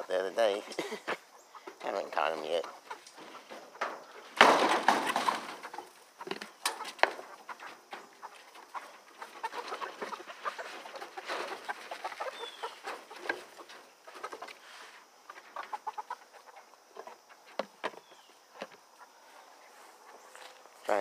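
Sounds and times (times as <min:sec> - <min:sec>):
young chickens clucking and peeping: 0:00.0 - 0:21.0.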